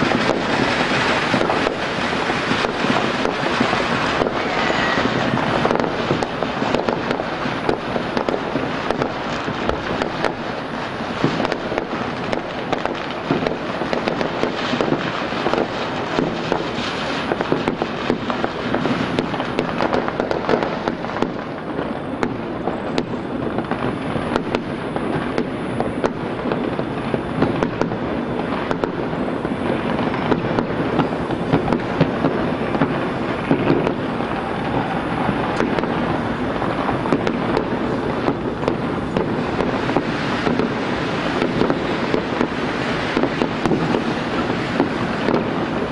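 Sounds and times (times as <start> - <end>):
fireworks and firecrackers crackling: 0.0 - 45.9.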